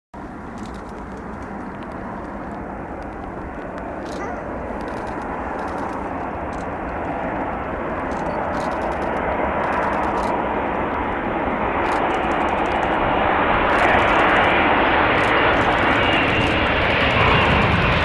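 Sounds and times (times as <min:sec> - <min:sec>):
jet airliner roar on approach: 0:00.2 - 0:18.0.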